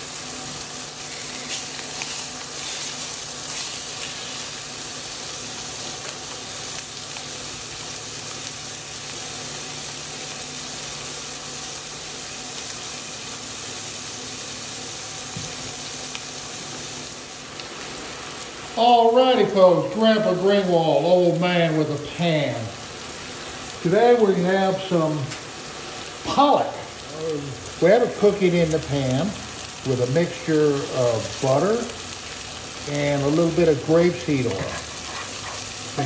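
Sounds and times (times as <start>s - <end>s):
fish sizzling in a skillet: 0.0s - 36.0s.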